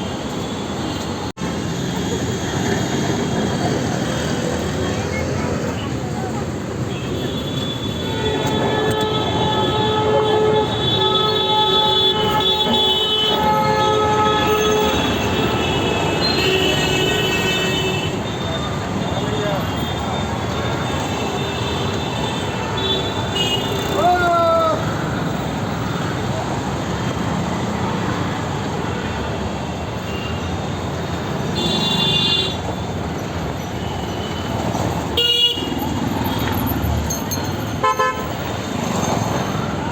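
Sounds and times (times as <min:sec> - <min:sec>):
busy street noise: 0:00.0 - 0:39.9.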